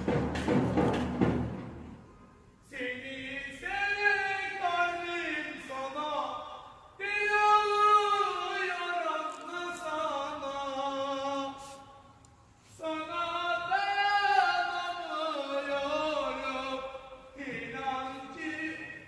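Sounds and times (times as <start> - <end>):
man singing a chant: 2.7 - 12.0, 12.7 - 19.0.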